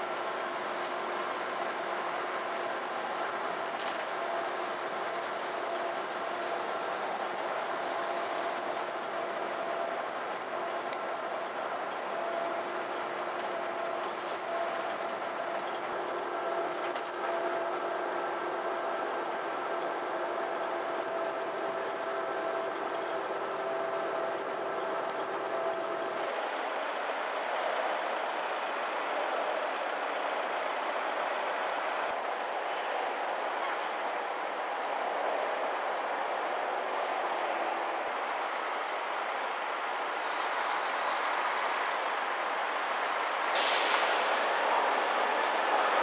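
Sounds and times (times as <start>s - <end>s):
bus cabin hum: 0.0s - 32.0s, 37.4s - 46.0s
steady outdoor hiss: 0.0s - 46.0s.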